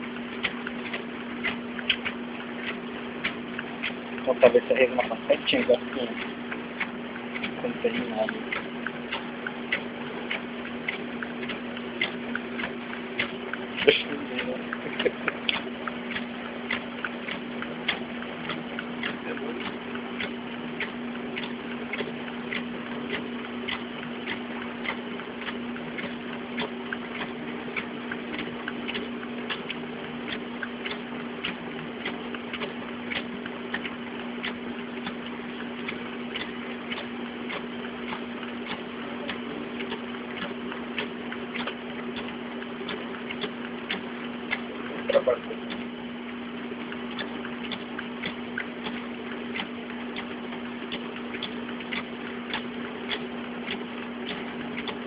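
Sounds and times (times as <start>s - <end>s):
scanner motor hum: 0.0s - 55.0s
paper feeding clicks: 0.1s - 55.0s.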